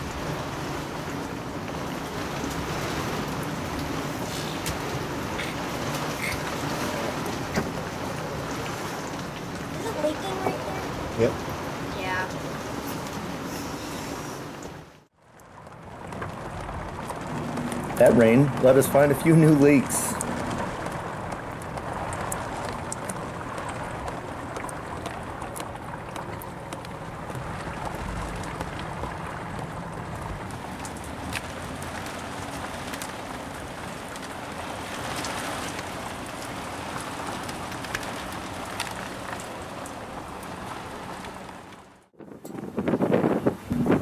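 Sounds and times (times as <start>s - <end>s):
raindrop ticks: 0.0s - 13.4s, 14.6s - 42.6s
rain on a boat: 0.0s - 44.0s.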